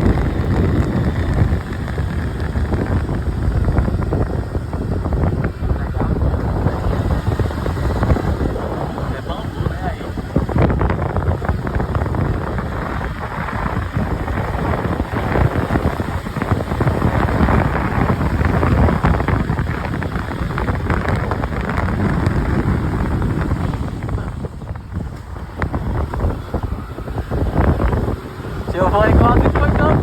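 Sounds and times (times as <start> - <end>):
motorcycle noise: 0.0 - 30.0
wind buffeting microphone: 0.0 - 30.0.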